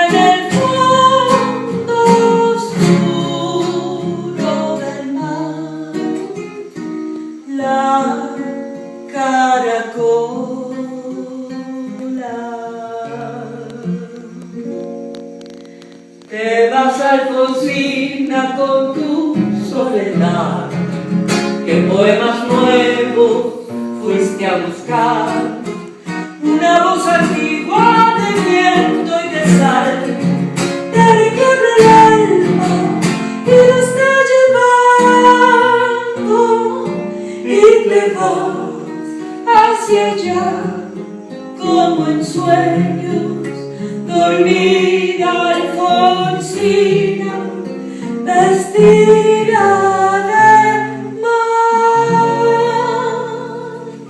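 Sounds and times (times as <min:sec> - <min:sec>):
woman singing: 0:00.0 - 0:14.9, 0:16.2 - 0:20.9, 0:21.6 - 0:54.0
plucked acoustic guitar: 0:00.0 - 0:54.0.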